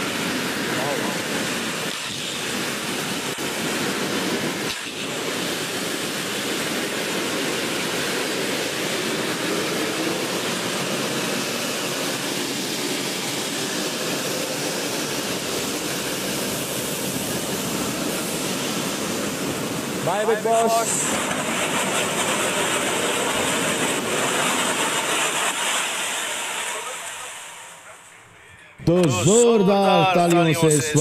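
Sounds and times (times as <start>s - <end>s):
spark fountains hissing: 0.0s - 28.1s.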